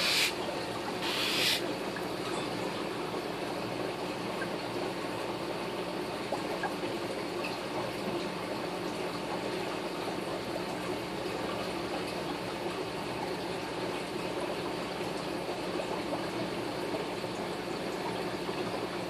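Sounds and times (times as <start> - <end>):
aquarium filter bubbling water: 0.0 - 19.0.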